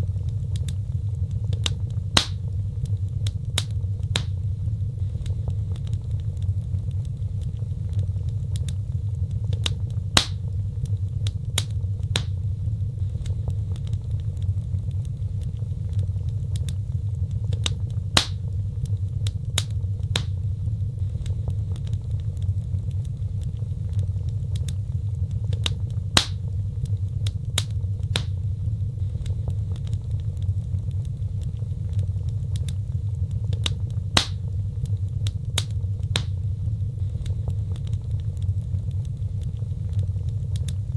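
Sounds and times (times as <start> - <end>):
fire crackles: 0.0 - 40.9
fire rumbling in fireplace: 0.0 - 40.9
loud fire pops: 0.0 - 40.9.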